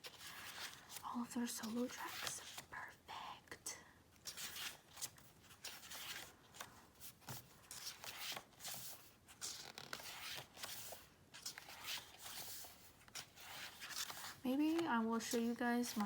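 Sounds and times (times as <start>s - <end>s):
paper and plastic rustling: 0.0s - 2.9s, 4.3s - 16.0s.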